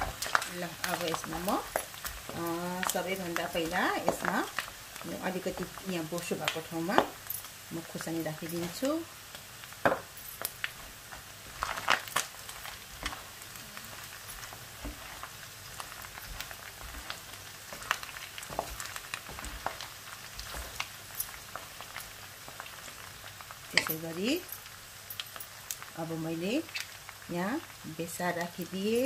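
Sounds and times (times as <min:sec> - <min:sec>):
fat popping and crackling: 0:00.0 - 0:29.0
meat sizzling in fat: 0:00.0 - 0:29.0.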